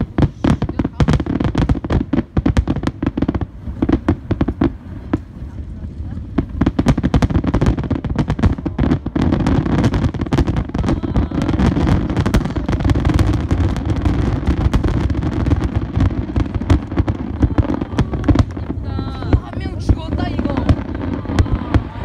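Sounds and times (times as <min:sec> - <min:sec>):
continuous low rumble: 0:00.0 - 0:22.0
fireworks crackling and bursting: 0:00.0 - 0:22.0.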